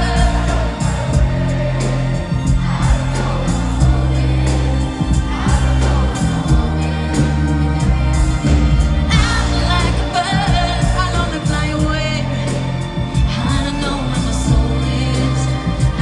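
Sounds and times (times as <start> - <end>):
lead vocal singing: 0.0 - 16.0
live pop band with bass and drums: 0.0 - 16.0.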